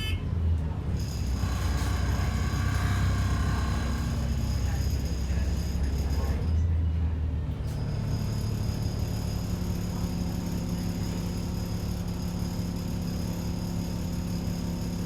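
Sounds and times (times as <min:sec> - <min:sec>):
bus diesel engine humming: 0:00.0 - 0:15.0.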